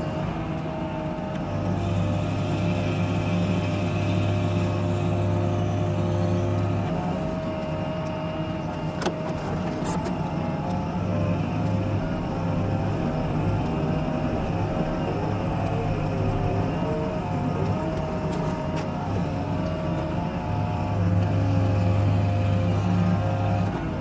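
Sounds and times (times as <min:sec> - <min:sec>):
heavy machinery engine hum: 0:00.0 - 0:24.0.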